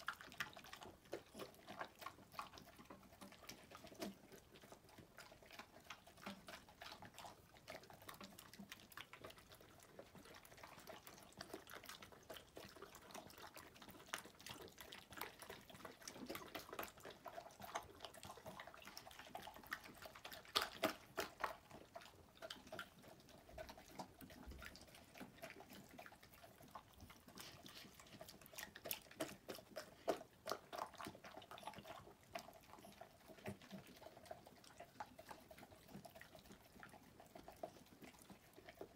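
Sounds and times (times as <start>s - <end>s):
dogs lapping and chewing: 0.0s - 38.9s.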